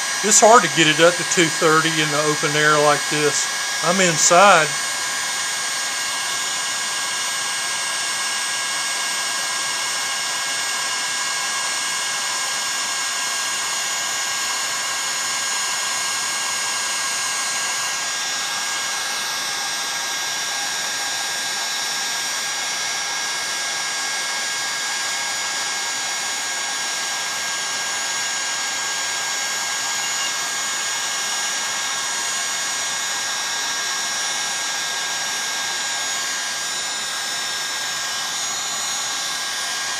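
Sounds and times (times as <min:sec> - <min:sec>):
heat gun blowing air: 0:00.0 - 0:39.9
high fan motor whine: 0:00.0 - 0:39.9.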